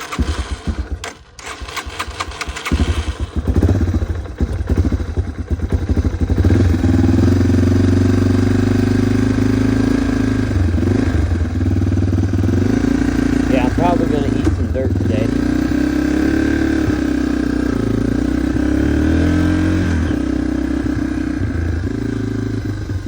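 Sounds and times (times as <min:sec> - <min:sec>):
dirt bike engine revving and idling: 0:00.0 - 0:23.0.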